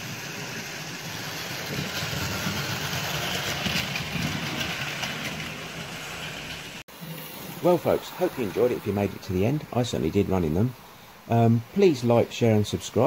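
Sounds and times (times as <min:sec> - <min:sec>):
model train running on track: 0:00.0 - 0:10.9.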